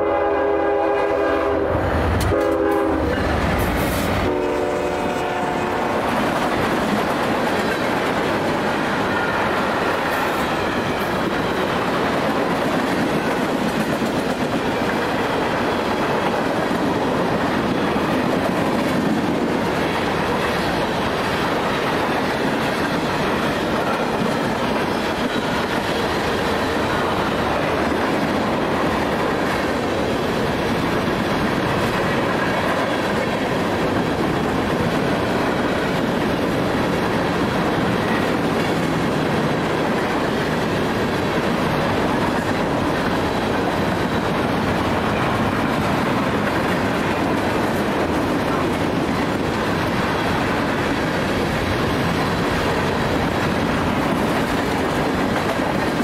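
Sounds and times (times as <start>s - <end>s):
steel wheels running on rails: 1.9s - 56.0s.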